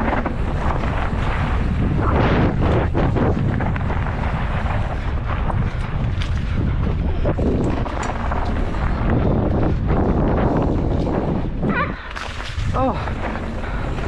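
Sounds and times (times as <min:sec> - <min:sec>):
bike rattling over bumps: 0:00.0 - 0:14.0
tyres on dirt trail: 0:00.0 - 0:14.0
wind buffeting microphone: 0:00.0 - 0:14.0.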